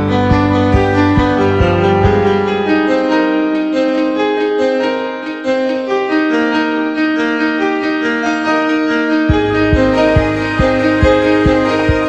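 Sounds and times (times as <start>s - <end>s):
piano-like keyboard melody: 0.0s - 12.0s.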